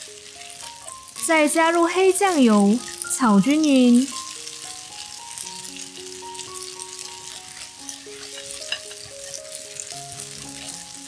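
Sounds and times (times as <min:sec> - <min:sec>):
noodles sizzling in hot oil: 0:00.0 - 0:11.0
soft background music: 0:00.0 - 0:11.0.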